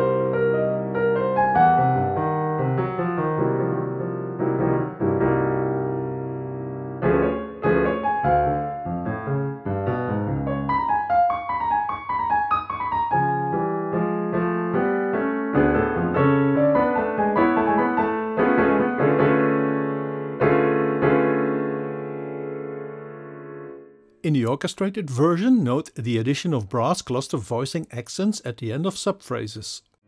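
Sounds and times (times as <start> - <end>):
solo piano: 0.0 - 24.2.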